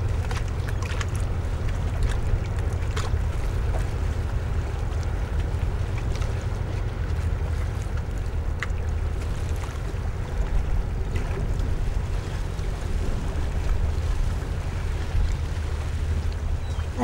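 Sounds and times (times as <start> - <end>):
water: 0.0 - 17.0
wind: 0.0 - 17.0.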